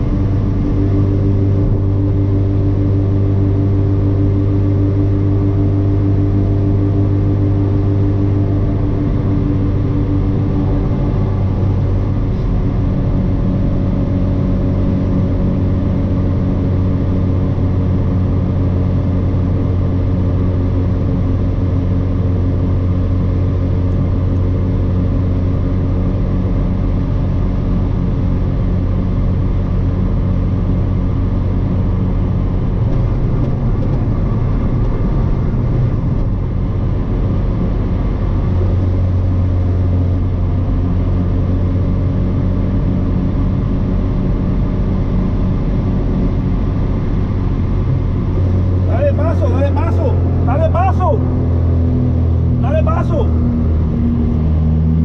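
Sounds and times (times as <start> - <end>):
car engine cruising: 0.0 - 55.0
road rumble: 0.0 - 55.0.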